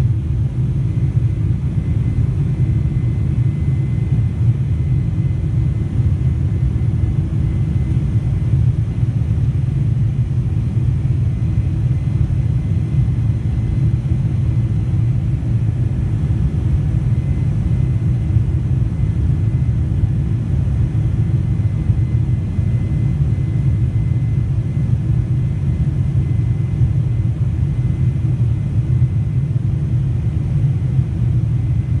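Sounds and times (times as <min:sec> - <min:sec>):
airliner cabin rumble: 0:00.0 - 0:32.0
faint high whine: 0:00.0 - 0:32.0.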